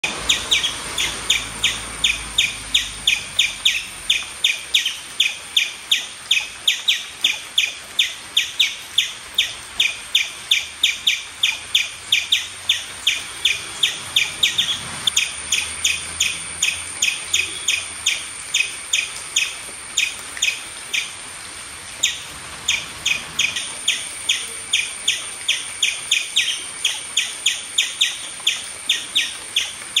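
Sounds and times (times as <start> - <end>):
squirrel chirping: 0.1 - 21.1, 22.0 - 30.0.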